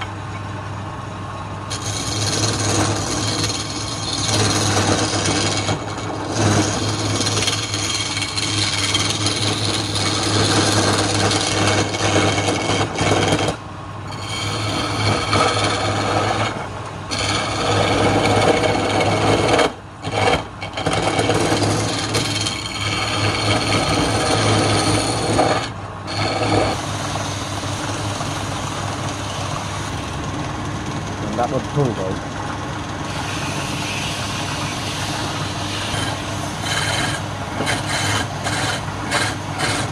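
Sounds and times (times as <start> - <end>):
lathe motor hum: 0.0 - 39.9
chisel scraping spinning wood: 1.6 - 39.9.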